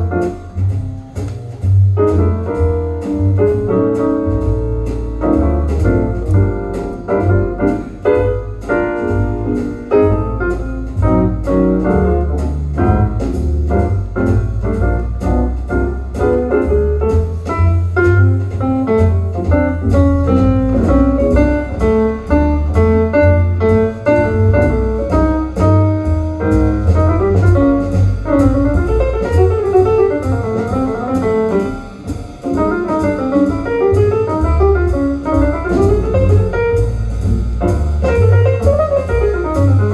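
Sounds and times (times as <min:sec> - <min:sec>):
instrumental jazz: 0:00.0 - 0:39.9.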